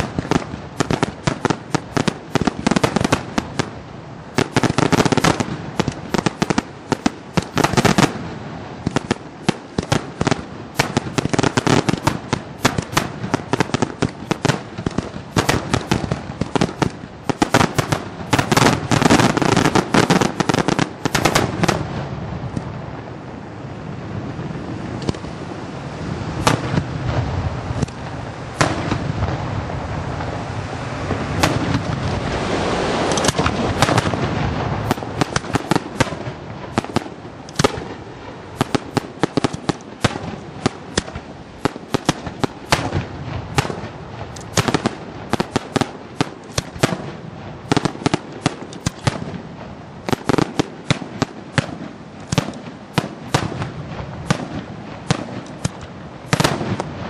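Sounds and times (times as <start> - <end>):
firework bangs: 0.0 - 23.0, 26.0 - 57.0
fireworks crackling: 0.0 - 57.0
steady rushing noise: 0.0 - 57.0.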